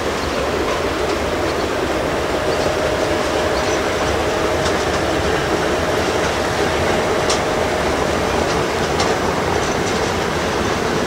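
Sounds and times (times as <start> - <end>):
locomotive whine: 0.0 - 11.0
rumble of rolling train wagons: 0.0 - 11.0
train wheel clicks: 0.0 - 11.0.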